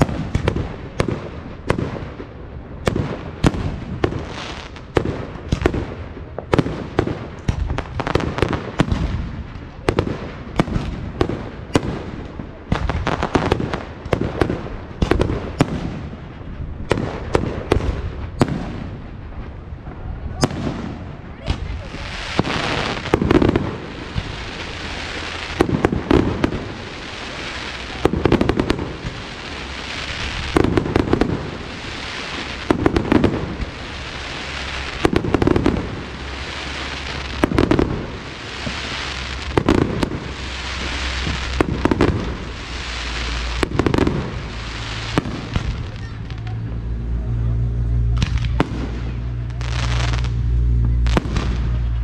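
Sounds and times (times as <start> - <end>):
fireworks bangs: 0.0 - 52.0
fireworks crackling and hiss: 0.0 - 52.0.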